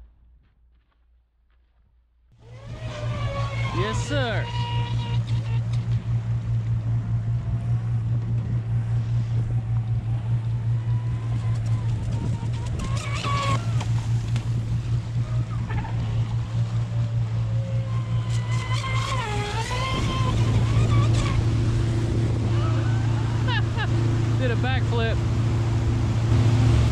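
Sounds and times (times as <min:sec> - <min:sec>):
electric motor whine: 0:02.4 - 0:24.9
motorboat engine drone: 0:02.4 - 0:26.9
water and wind noise: 0:02.4 - 0:26.9.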